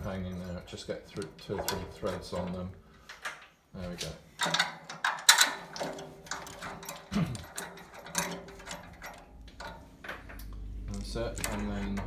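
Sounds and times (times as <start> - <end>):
metal bolts clicking and tapping: 0.0 - 12.0.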